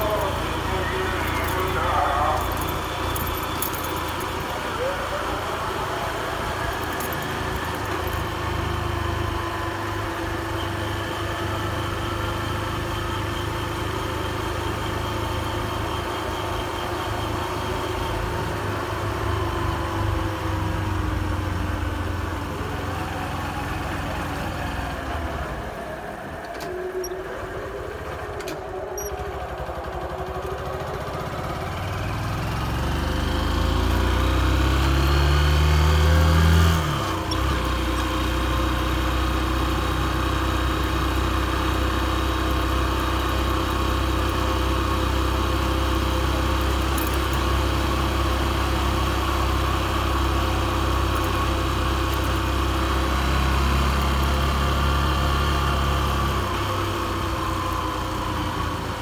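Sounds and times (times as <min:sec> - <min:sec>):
motorcycle engine running: 0:00.0 - 0:26.2, 0:27.0 - 0:59.0
road and wind noise: 0:00.0 - 0:59.0.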